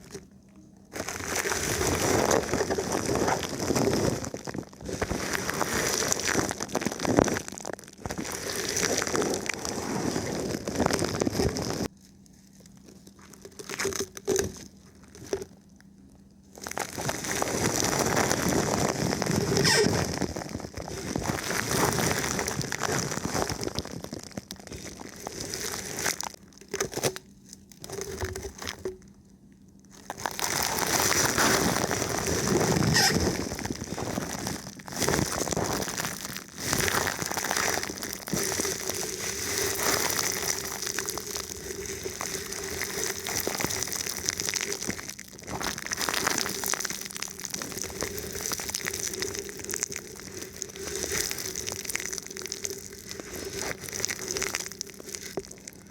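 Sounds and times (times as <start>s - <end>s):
plastic film crinkling on microphone: 0.0s - 0.3s, 0.9s - 15.8s, 16.5s - 29.1s, 29.8s - 55.9s.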